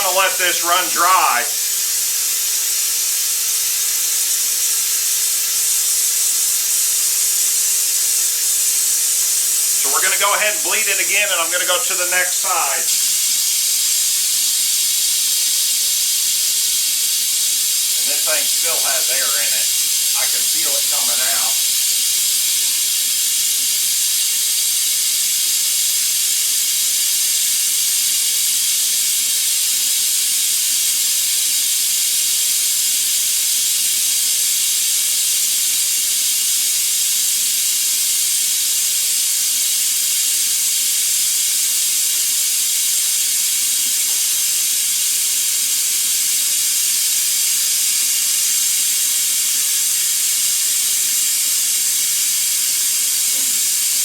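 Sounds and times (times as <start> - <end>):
high hiss of exhausting air: 0.0 - 54.0.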